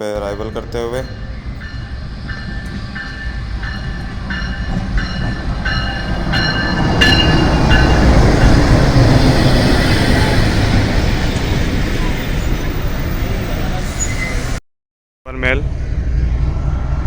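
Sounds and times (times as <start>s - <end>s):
train rumbling on rails: 0.0s - 14.6s, 15.3s - 17.0s.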